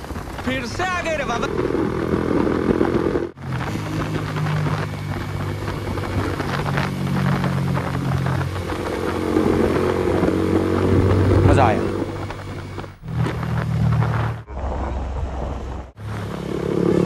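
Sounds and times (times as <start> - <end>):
motorcycle engine running: 1.3 - 14.5, 15.8 - 17.0.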